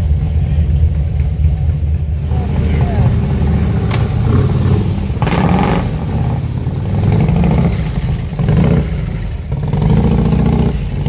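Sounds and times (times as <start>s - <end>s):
motorcycle engine passing: 2.1s - 11.0s.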